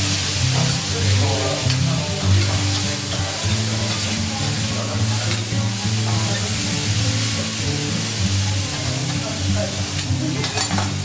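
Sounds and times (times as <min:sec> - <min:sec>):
background music with low notes: 0:00.0 - 0:11.0
vegetables sizzling on a griddle: 0:00.0 - 0:11.0
metal spatula on griddle: 0:00.1 - 0:11.0.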